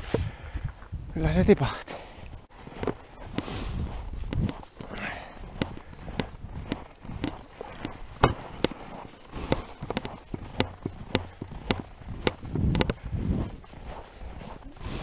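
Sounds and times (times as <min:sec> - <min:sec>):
footsteps crunching in snow: 0:02.0 - 0:15.0
muffled rustle: 0:02.0 - 0:15.0.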